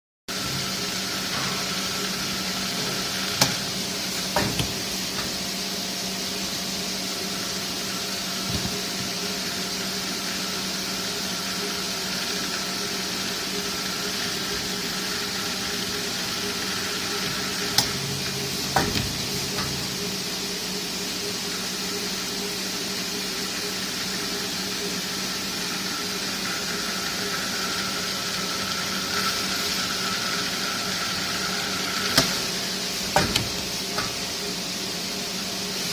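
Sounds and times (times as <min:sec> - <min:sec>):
constant machine whine: 0:00.3 - 0:35.9
machine hum: 0:00.3 - 0:35.9.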